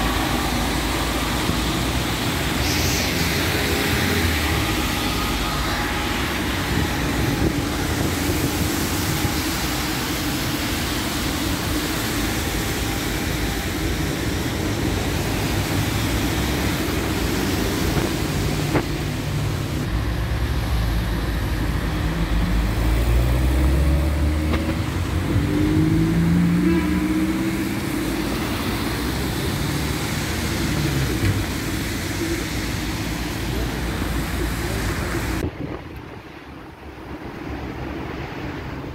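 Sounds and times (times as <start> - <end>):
car engines passing: 0.0 - 38.9
tyres hissing on wet asphalt: 0.0 - 38.9.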